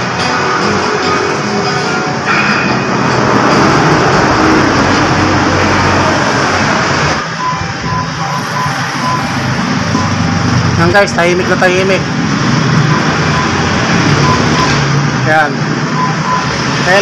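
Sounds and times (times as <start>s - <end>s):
rushing motor vehicle: 0.0s - 17.0s.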